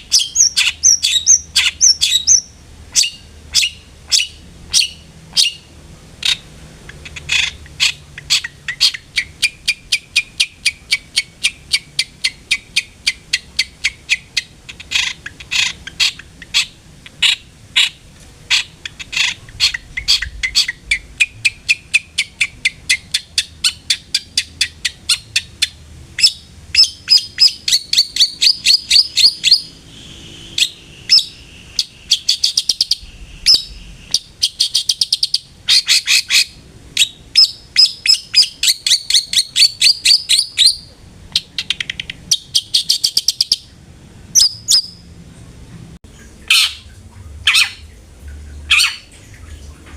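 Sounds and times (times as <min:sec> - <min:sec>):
bird singing harsh chattering trills: 0:00.0 - 0:43.7, 0:44.4 - 0:45.1, 0:48.7 - 0:49.1.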